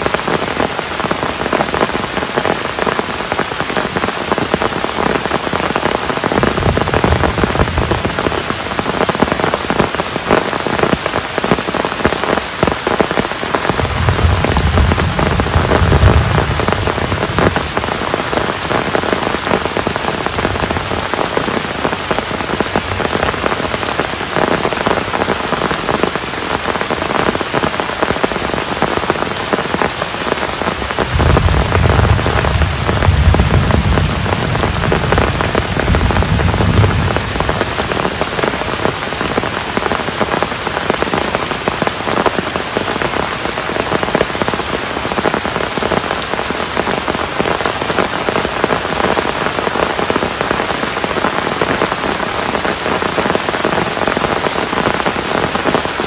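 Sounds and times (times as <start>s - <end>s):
heavy rain pattering on tent: 0.0s - 56.0s.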